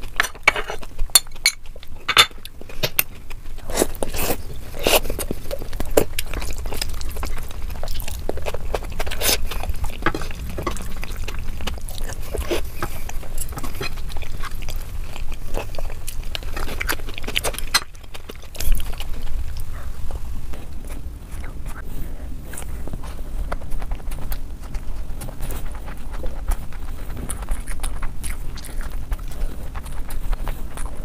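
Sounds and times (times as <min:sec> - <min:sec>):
person chewing wetly: 0:00.0 - 0:31.0.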